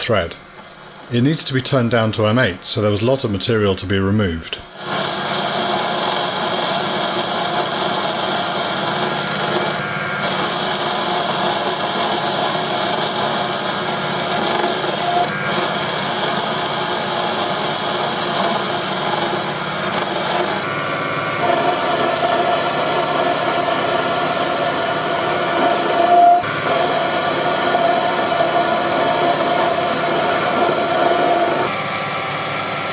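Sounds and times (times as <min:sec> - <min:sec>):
lathe machining whine: 0:04.7 - 0:32.9.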